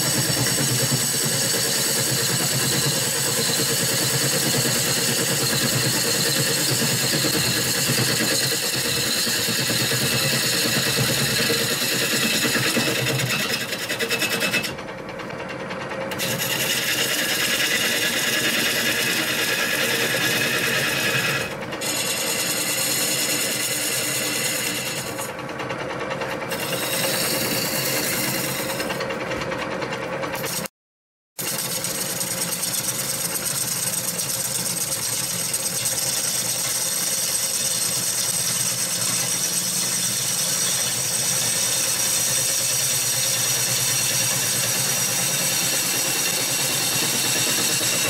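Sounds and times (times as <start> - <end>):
gouge cutting wood: 0.0 - 14.8, 16.1 - 25.4, 26.5 - 29.1, 31.4 - 48.0
wood lathe humming: 0.0 - 30.7, 31.4 - 48.0.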